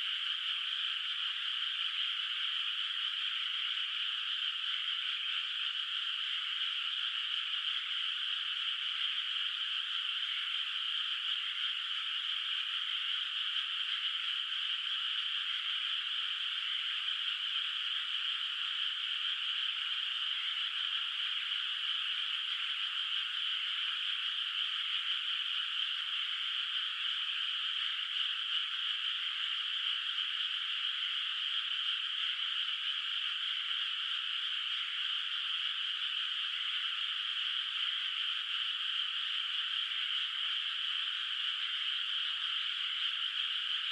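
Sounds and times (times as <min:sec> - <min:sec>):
chorus of frogs calling: 0:00.0 - 0:43.9.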